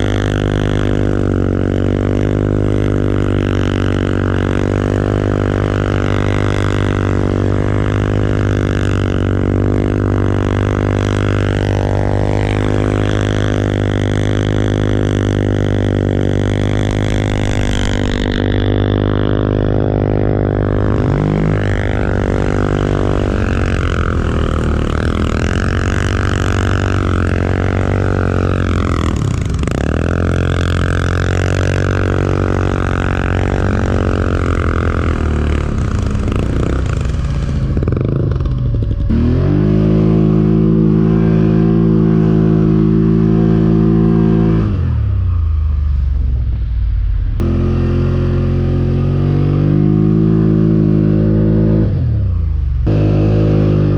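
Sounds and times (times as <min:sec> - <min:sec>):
atv engine droning: 0:00.0 - 0:53.9.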